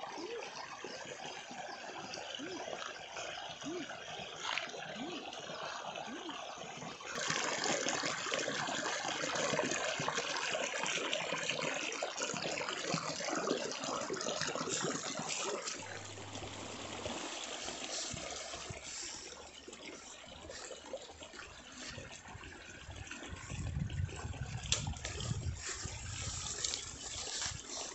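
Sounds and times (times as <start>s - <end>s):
water trickling in a stream: 0.0s - 27.9s.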